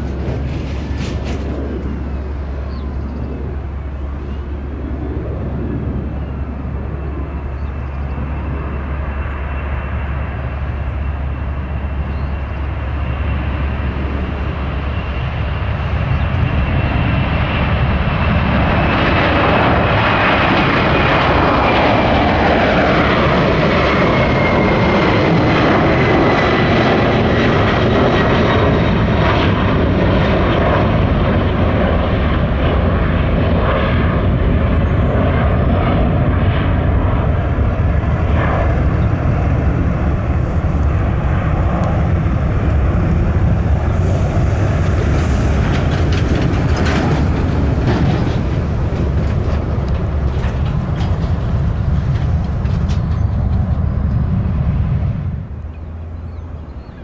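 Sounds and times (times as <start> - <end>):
jet airliner engines roaring: 0.0 - 57.0.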